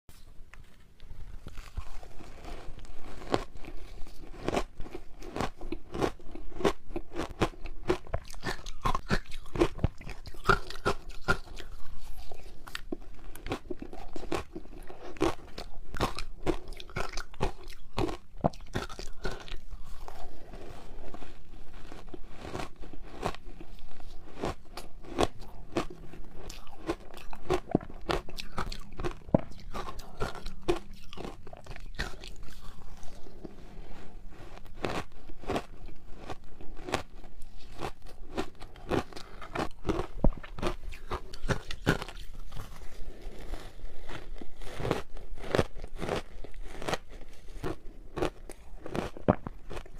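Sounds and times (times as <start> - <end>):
ice being chewed: 0.1 - 49.9.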